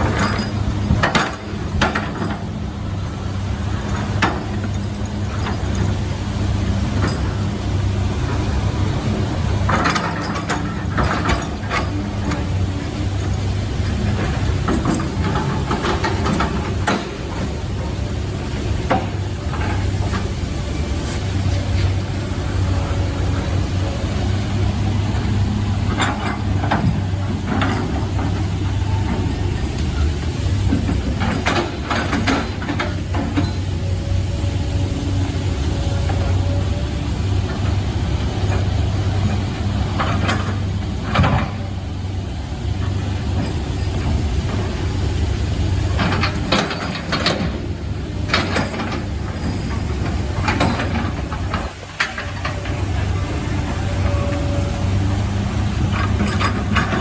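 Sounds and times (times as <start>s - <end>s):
heavy machine engine humming: 0.0s - 57.0s.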